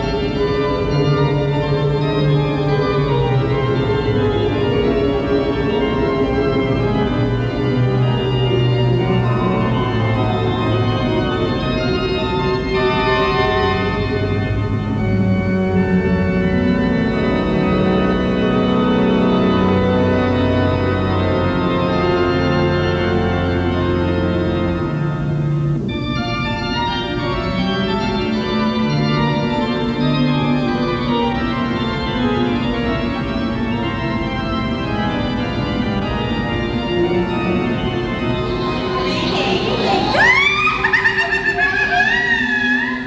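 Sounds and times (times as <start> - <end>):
organ playing slow chords: 0.0 - 43.0.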